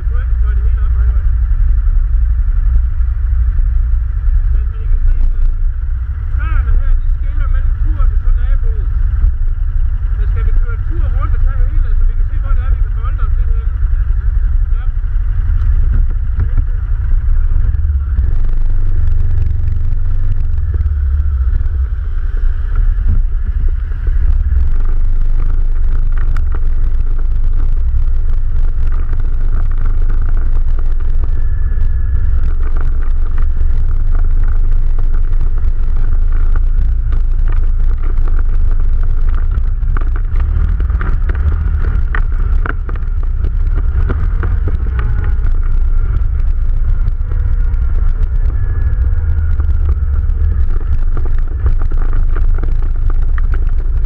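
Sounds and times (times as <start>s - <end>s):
quad bike engine rumbling: 0.0s - 54.0s.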